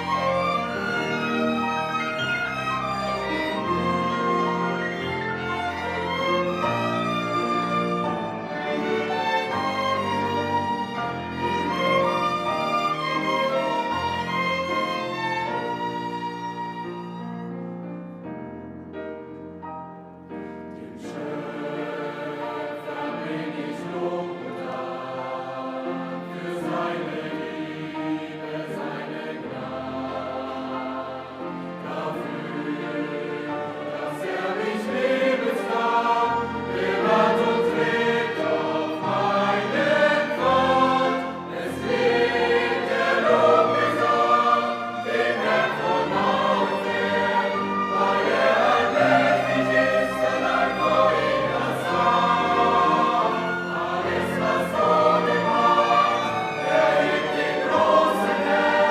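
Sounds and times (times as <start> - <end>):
choir singing held chords: 0.0 - 16.8, 20.7 - 58.9.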